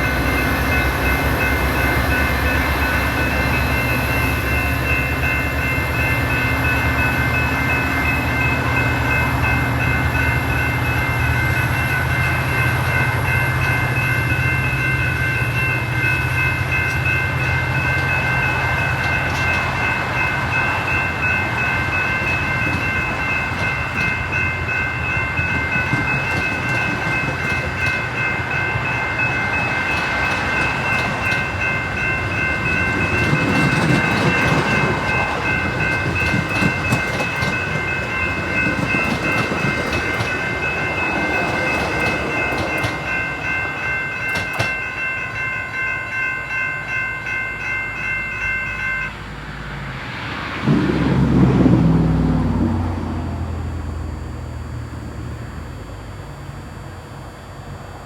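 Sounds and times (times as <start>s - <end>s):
grade-crossing bells ringing: 0.0s - 50.9s
diesel locomotive engine rumble: 0.0s - 58.0s
train cars noise: 0.0s - 58.0s.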